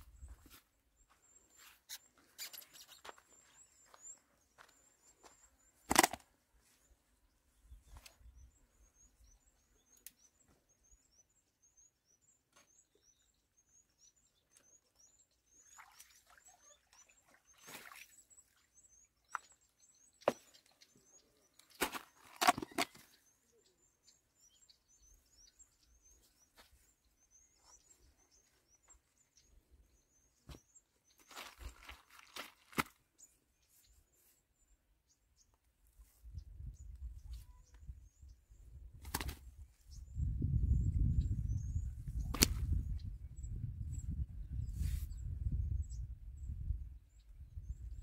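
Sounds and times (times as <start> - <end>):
small bird chirping: 0.1 - 6.2, 6.8 - 48.0.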